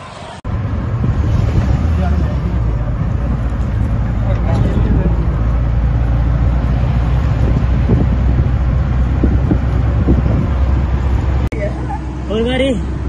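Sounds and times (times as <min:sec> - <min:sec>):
engine and road noise: 0:00.0 - 0:13.0
wind buffeting microphone: 0:00.4 - 0:11.5.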